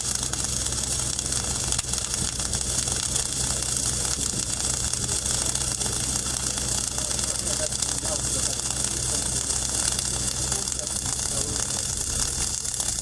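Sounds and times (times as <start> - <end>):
arc welding crackling hiss: 0.0 - 13.0
engine droning: 0.0 - 13.0.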